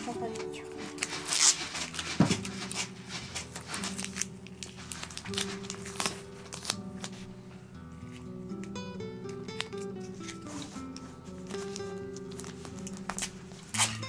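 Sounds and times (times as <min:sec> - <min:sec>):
soft background music: 0:00.0 - 0:14.0
tape pads crinkling: 0:00.0 - 0:14.0.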